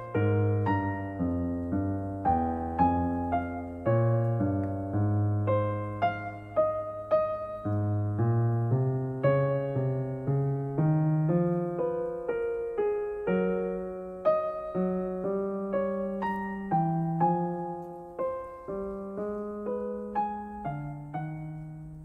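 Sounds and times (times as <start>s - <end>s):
electric piano melody: 0.0s - 22.0s.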